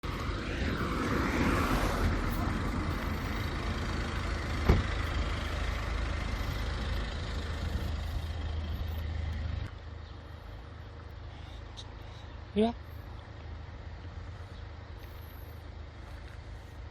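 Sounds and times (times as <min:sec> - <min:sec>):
vehicle engine rumbling: 0:00.0 - 0:16.9.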